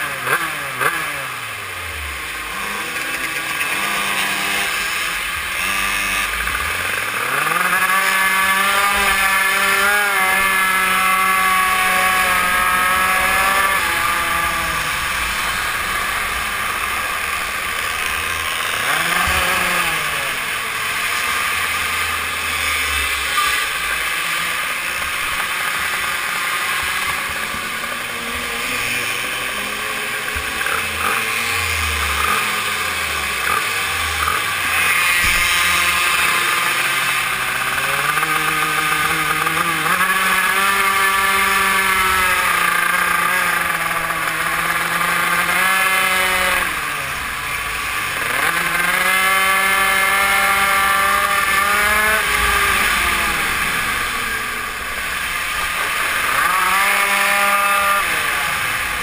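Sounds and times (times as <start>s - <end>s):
mini motorbike engine revving: 0.0s - 59.0s.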